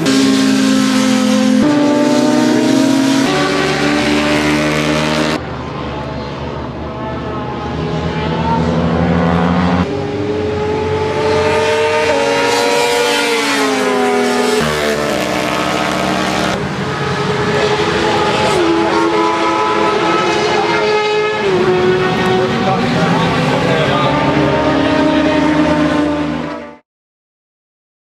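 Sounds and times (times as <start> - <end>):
motorcycle engines at high revs: 0.0 - 5.4, 8.1 - 26.8.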